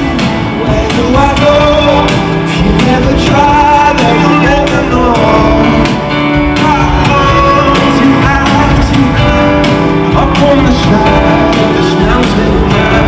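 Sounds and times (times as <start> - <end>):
person singing: 0.0 - 13.0
steady drum beat: 0.0 - 13.0
strummed guitar: 0.0 - 13.0.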